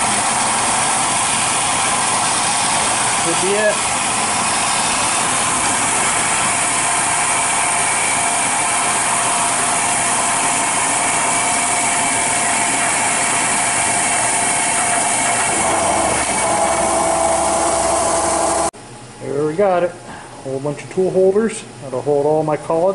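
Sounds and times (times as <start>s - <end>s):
milling machine whine and hiss: 0.0s - 18.7s.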